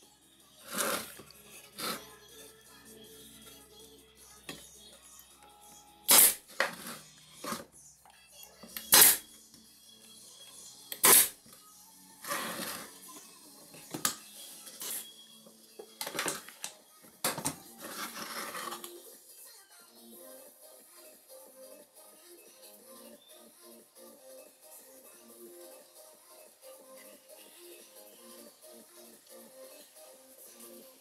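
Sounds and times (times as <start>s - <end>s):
faint background music: 0.0s - 31.0s.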